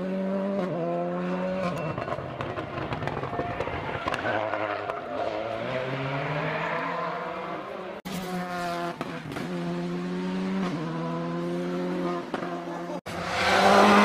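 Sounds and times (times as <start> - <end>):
rally car engine at high revs: 0.0 - 14.0.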